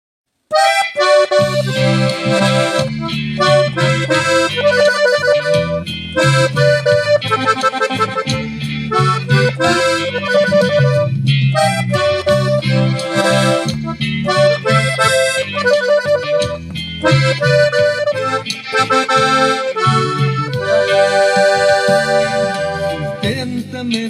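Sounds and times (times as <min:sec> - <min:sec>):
accordion melody: 0:00.5 - 0:24.0
bass line: 0:00.5 - 0:24.0.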